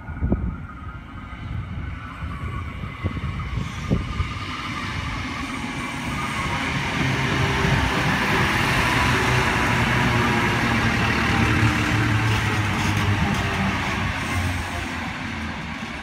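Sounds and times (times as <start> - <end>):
railcar engine hum: 0.0 - 16.0
wheels rumbling on rails: 0.0 - 16.0.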